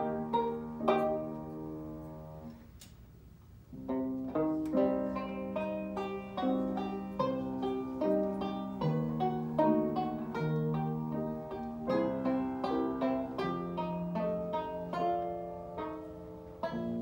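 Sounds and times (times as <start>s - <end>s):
banjo and piano duet: 0.0s - 2.7s, 3.6s - 17.0s.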